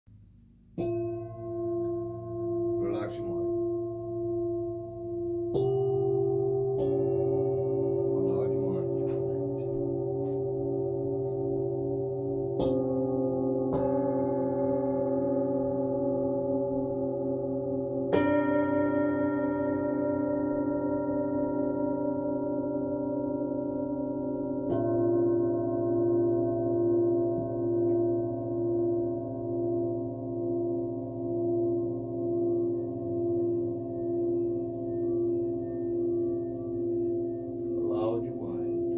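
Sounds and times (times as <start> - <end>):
singing bowls ringing: 0.8 - 38.9.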